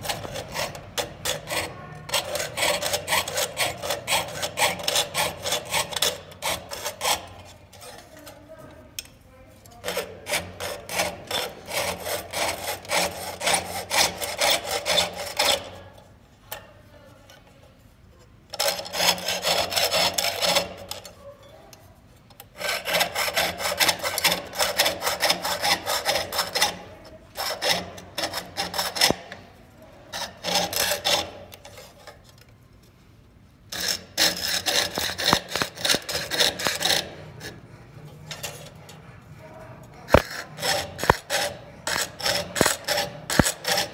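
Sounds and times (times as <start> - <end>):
saw rasping through metal sheet: 0.0 - 8.6, 9.7 - 16.0, 18.5 - 21.6, 22.4 - 32.4, 33.7 - 43.9.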